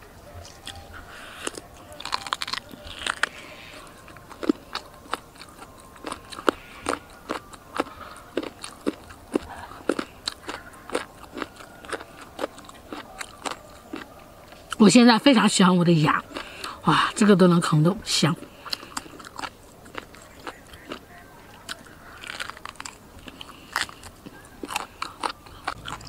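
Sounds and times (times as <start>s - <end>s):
chewing meat with crunching: 0.0s - 15.0s, 15.9s - 17.2s, 18.4s - 26.0s.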